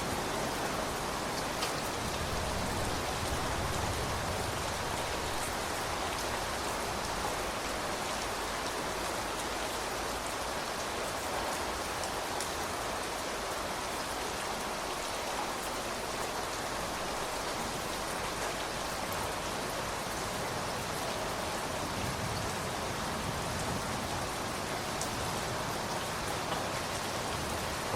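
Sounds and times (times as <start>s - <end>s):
rain pattering: 0.0s - 27.9s.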